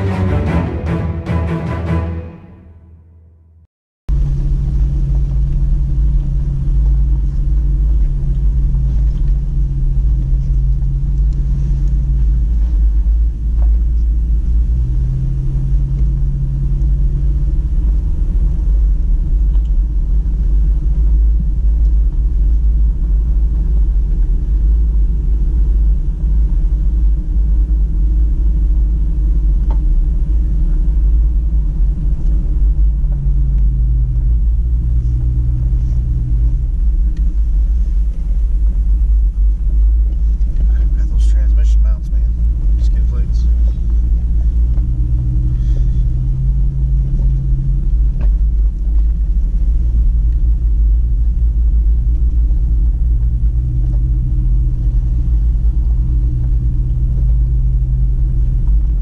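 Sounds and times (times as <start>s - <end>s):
engine and tyres rumbling: 4.1s - 59.0s
humming engine tone: 4.1s - 59.0s.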